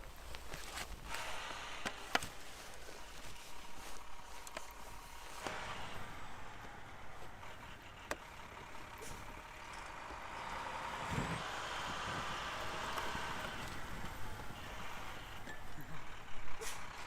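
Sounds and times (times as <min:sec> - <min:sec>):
truck engine running: 0:00.9 - 0:17.0.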